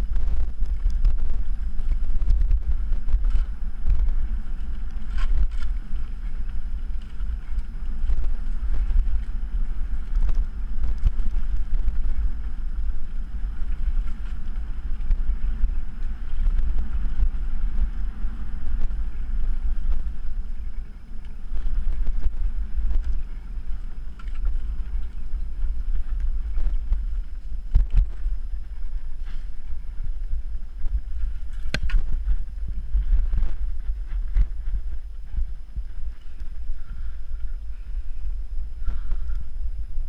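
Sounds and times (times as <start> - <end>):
bike rolling over dirt track: 0.0 - 37.5
wind buffeting microphone: 0.0 - 40.0.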